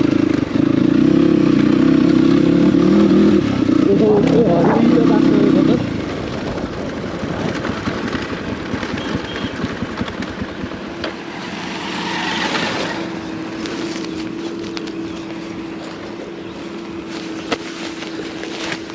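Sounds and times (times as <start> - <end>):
dirt bike engine running: 0.0 - 18.9.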